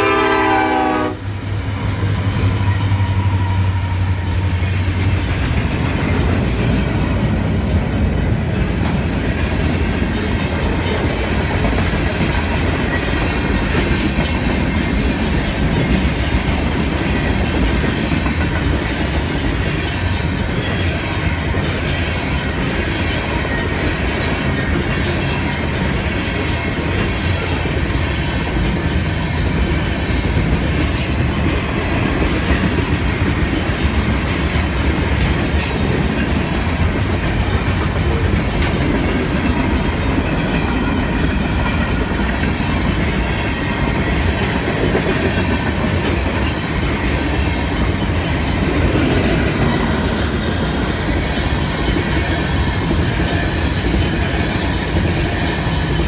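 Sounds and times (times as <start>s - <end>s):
train wheels rumbling on rail: 0.0s - 56.0s
wheels clicking over rail joints: 4.4s - 56.0s.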